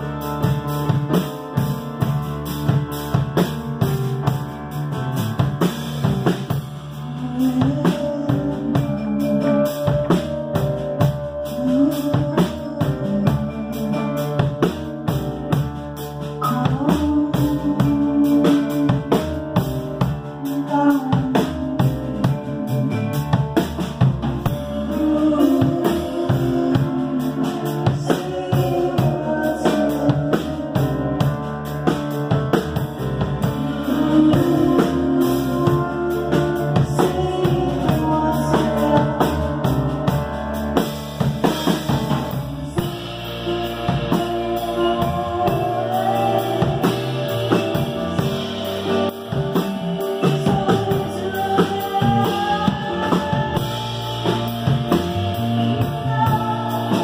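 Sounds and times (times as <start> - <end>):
drum kit: 0.0 - 57.0
guitar: 0.0 - 57.0
piano: 0.0 - 57.0.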